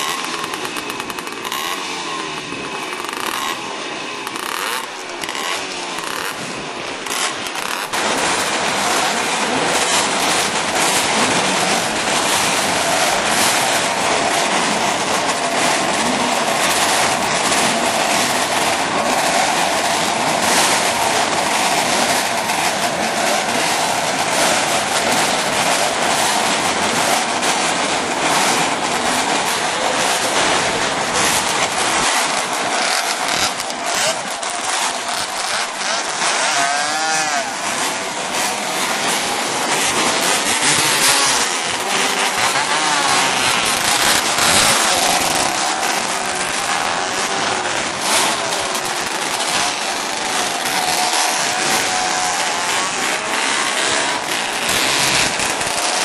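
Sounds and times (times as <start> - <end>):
racing motorcycle engines: 0.0 - 56.0.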